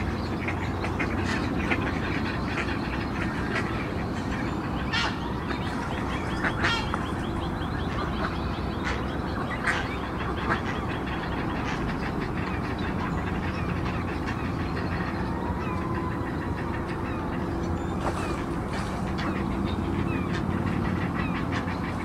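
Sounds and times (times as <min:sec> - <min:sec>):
waterbird calls: 0:00.0 - 0:22.0.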